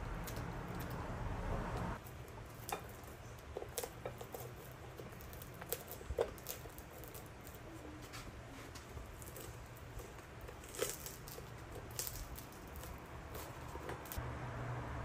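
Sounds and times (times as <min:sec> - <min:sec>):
foam sole peeling crackles: 0:02.0 - 0:14.2.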